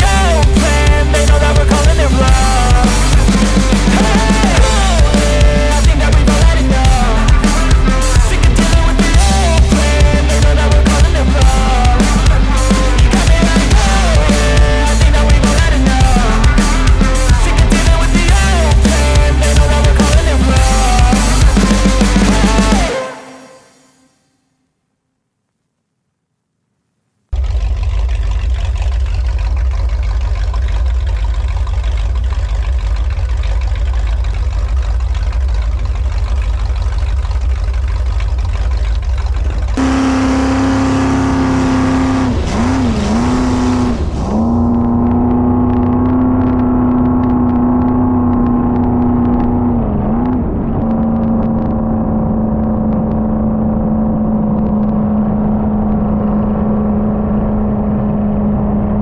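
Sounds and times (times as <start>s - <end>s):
heavy low rush: 0.0s - 24.0s, 27.4s - 59.0s
boat engine drone: 0.0s - 24.2s, 27.4s - 59.0s.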